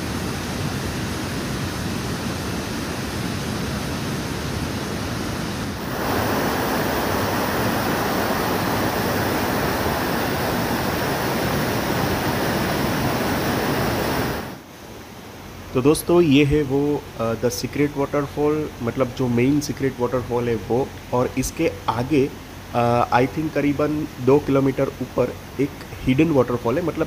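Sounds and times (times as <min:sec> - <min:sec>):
stream rushing over boulders: 0:00.0 - 0:27.0.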